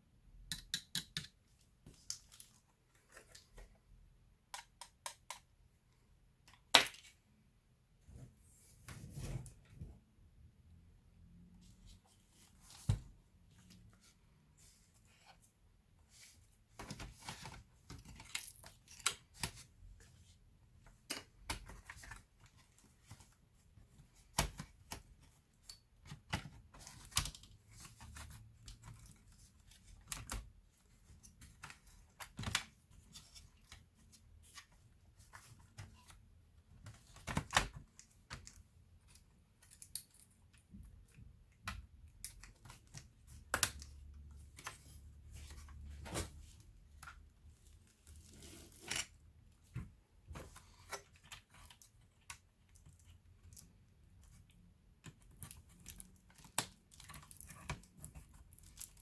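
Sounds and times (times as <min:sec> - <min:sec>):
soft handling noise: 0:01.3 - 0:10.4, 0:11.4 - 0:59.0.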